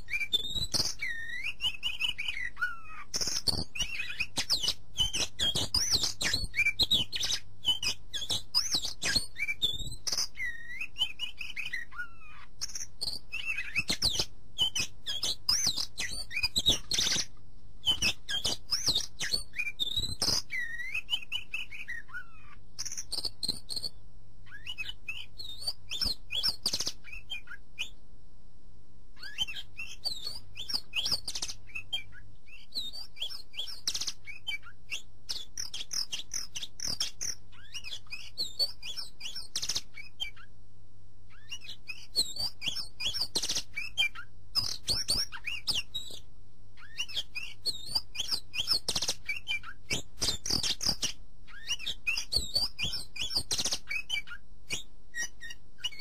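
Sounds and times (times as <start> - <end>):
birds chirping and twittering: 0.0 - 28.1, 29.1 - 40.6, 41.3 - 56.0.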